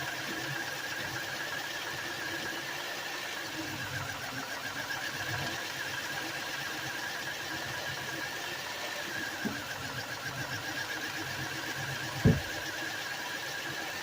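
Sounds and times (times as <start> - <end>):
steady high whine: 0.0 - 14.0.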